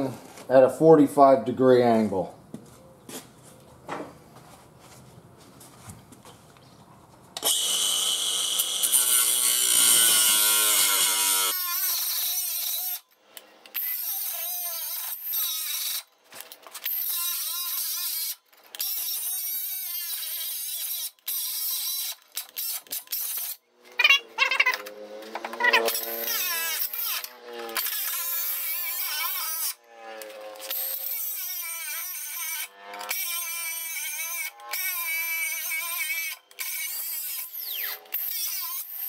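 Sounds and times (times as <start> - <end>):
angle grinder cutting steel: 7.4 - 39.0.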